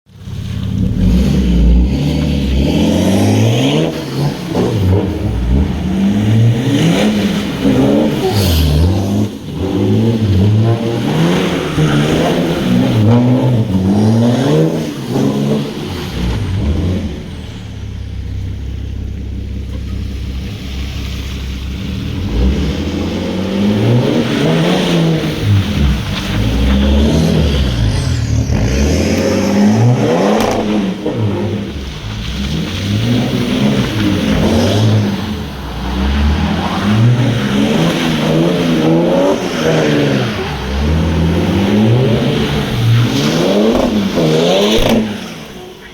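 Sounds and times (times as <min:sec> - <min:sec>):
diesel engine revving: 0:00.1 - 0:45.9.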